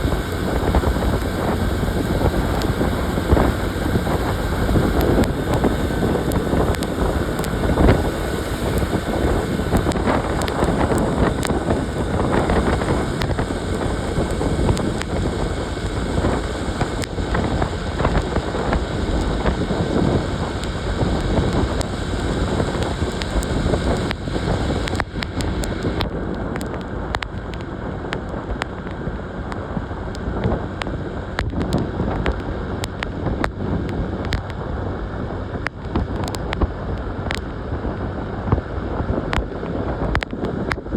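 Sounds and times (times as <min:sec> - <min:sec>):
motorcycle engine running: 0:00.0 - 0:40.9
road noise: 0:00.0 - 0:40.9
wind buffeting microphone: 0:00.0 - 0:40.9.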